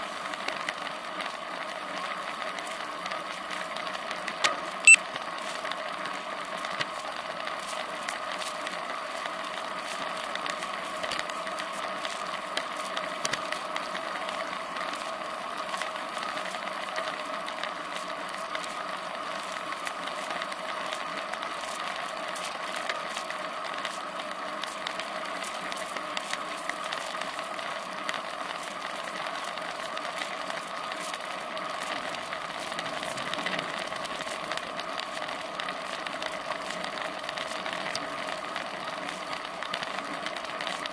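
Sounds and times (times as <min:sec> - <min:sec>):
hum of tyres and air: 0:00.0 - 0:40.9.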